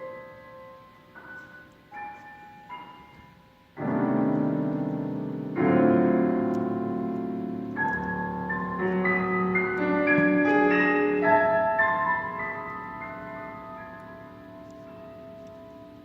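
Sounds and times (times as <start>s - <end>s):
solo piano: 0.0s - 16.0s.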